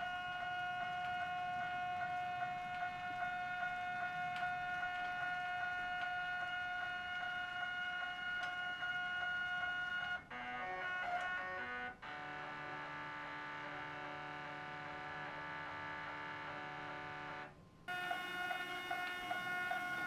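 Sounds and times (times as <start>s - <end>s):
stepper motor whine: 0.0s - 20.0s.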